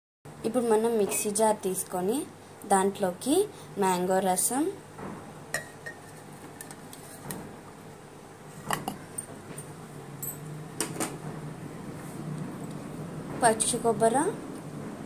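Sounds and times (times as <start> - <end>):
faint steady hum: 0.3 - 14.9.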